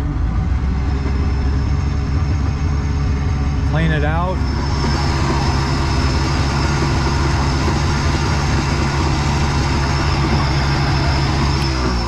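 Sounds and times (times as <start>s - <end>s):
outboard motor drone: 0.0s - 12.0s.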